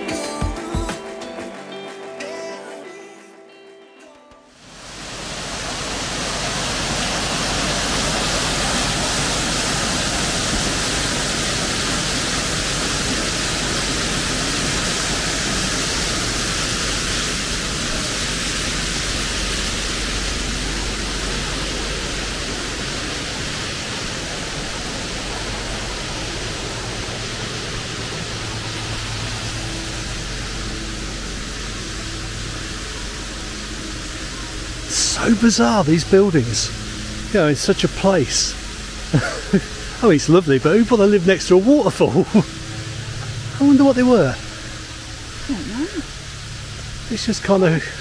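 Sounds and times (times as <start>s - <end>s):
waterfall rushing: 4.6s - 48.0s.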